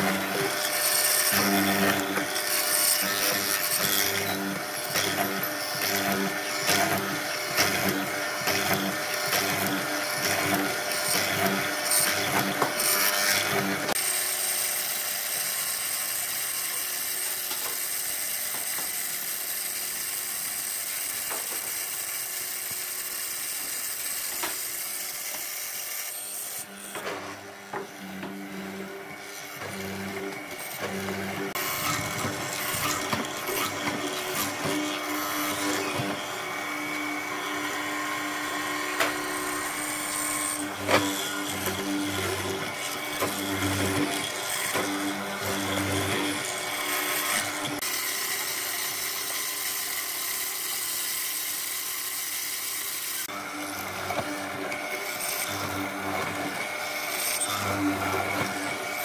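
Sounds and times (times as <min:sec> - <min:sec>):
power tool whining on wood: 0:00.0 - 0:59.0.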